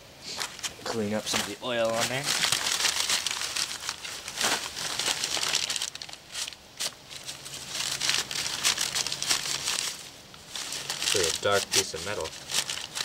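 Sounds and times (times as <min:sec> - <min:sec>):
wipe crinkling and rubbing: 0:00.4 - 0:13.0.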